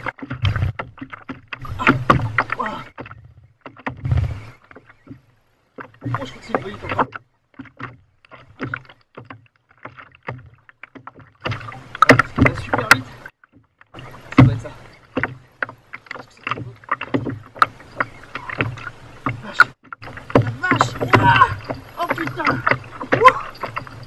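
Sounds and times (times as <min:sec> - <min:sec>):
clicks and knocks from rod and boat: 0:00.0 - 0:24.0.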